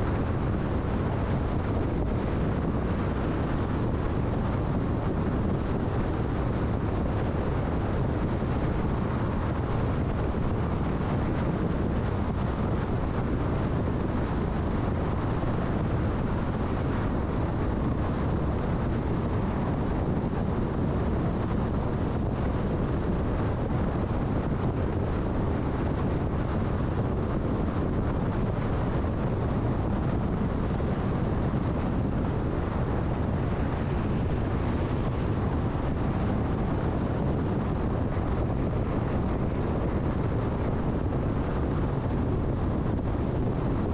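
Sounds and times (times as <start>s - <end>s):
wind rushing past car: 0.0s - 43.9s.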